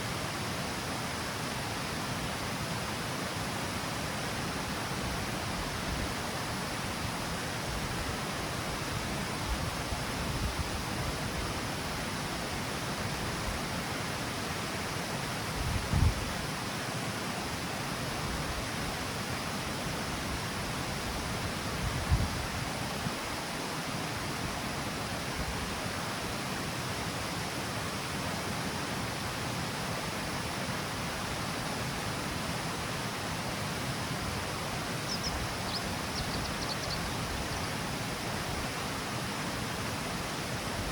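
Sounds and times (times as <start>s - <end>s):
water rushing over cascade steps: 0.0s - 40.9s.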